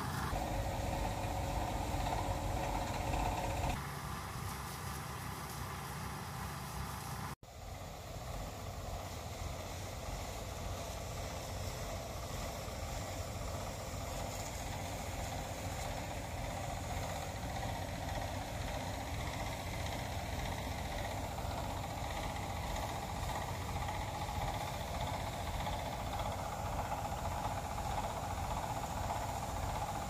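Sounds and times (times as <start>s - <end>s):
spray hiss: 0.0s - 30.0s
tractor engine running: 0.0s - 30.0s.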